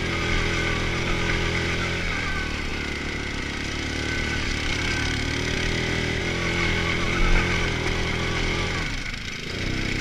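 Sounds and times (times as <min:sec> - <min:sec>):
quad engine running: 0:00.0 - 0:10.0
tyres rumbling on gravel: 0:00.0 - 0:10.0.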